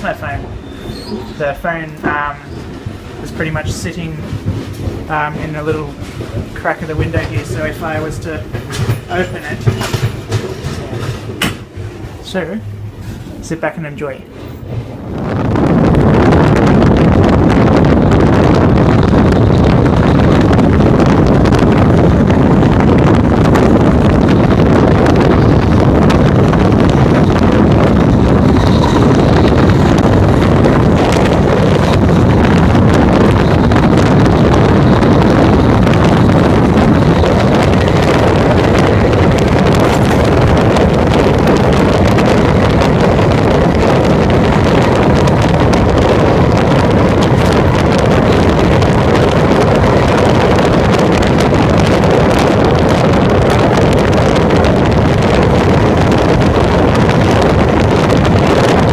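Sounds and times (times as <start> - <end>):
train running on the track: 0.0 - 58.9
wind buffeting a microphone: 0.0 - 58.9.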